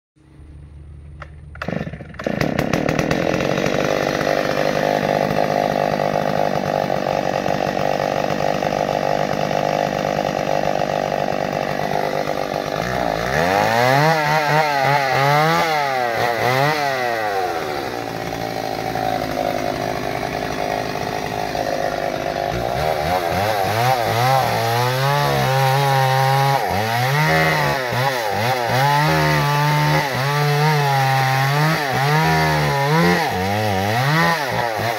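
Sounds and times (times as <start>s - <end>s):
chainsaw cutting into tree trunk: 1.5s - 34.9s
chainsaw engine revving: 1.5s - 34.9s.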